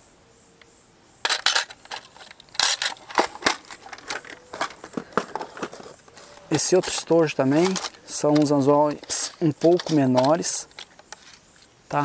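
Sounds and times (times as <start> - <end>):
plastic case clicks and rattles: 1.2 - 11.2.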